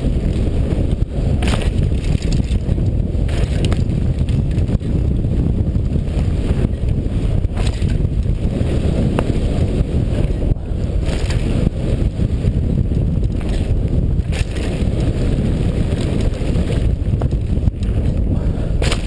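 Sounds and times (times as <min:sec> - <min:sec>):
tyres rumbling on dirt: 0:00.0 - 0:19.0
wind buffeting microphone: 0:00.0 - 0:19.0.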